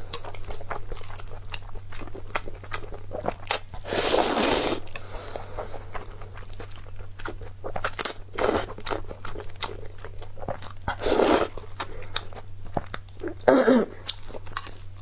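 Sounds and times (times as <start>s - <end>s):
person chewing and crunching food: 0.0s - 15.0s
steady low hum: 0.0s - 15.0s.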